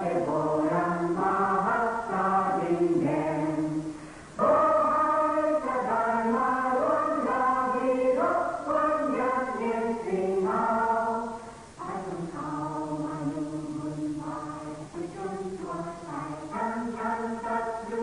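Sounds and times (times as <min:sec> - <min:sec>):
choir singing sustained chords: 0:00.0 - 0:18.0.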